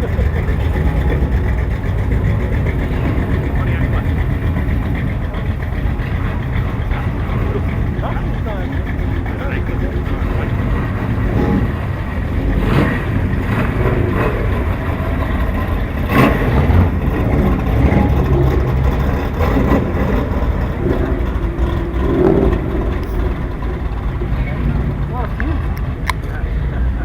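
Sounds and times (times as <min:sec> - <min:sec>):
car engines driving past: 0:00.0 - 0:27.0.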